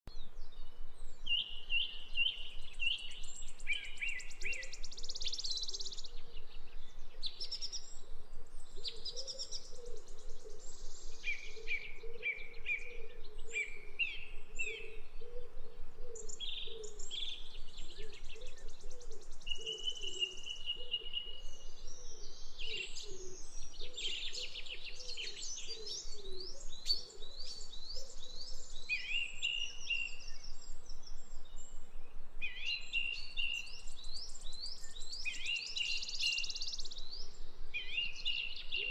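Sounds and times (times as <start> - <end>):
songbirds singing: 0.1 - 38.9.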